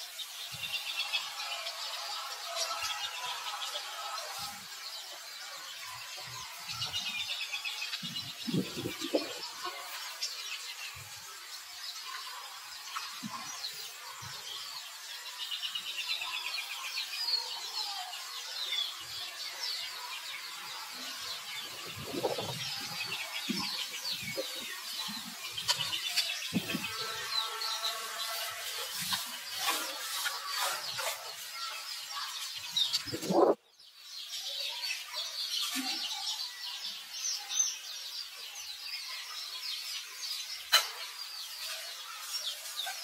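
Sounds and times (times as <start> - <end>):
birds chirping and singing: 0.0 - 43.0.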